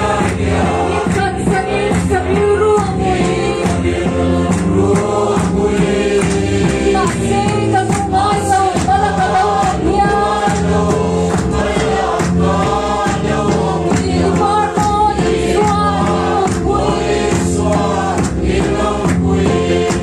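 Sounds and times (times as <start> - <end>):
congregation singing a hymn: 0.0 - 20.0
people clapping in time: 0.0 - 20.0.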